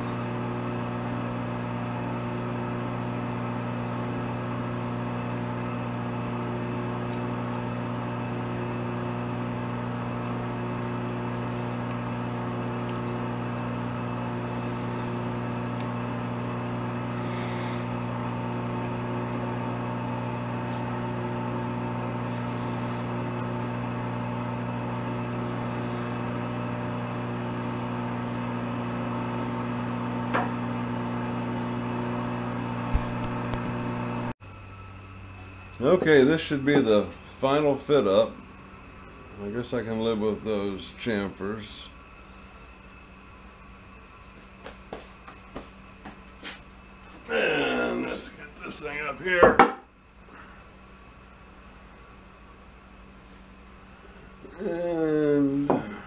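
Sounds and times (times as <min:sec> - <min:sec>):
shop machinery humming: 0:00.0 - 0:56.0.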